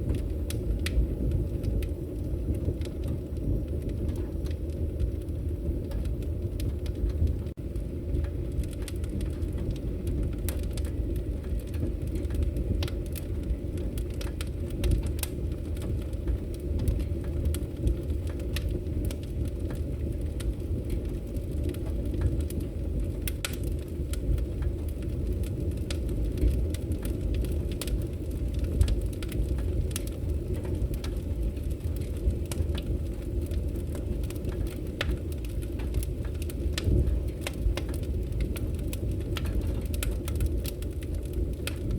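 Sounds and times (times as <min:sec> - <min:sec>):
fire rumbling: 0:00.0 - 0:41.9
logs crackling and popping: 0:00.0 - 0:41.9.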